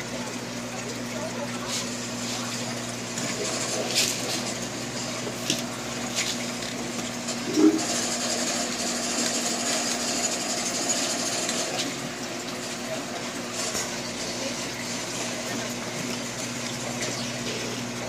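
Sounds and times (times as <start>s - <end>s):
air pump electric hum: 0.0s - 18.0s.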